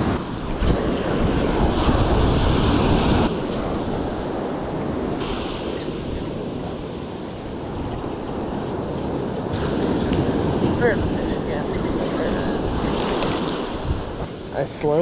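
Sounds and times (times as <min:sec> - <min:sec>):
small waves washing up beach: 0:00.0 - 0:15.0
wind buffeting microphone: 0:00.0 - 0:15.0.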